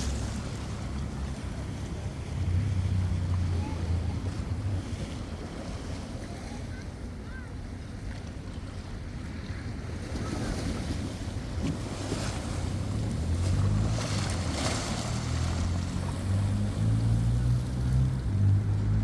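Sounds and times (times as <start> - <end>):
wind and water rushing: 0.0 - 19.0.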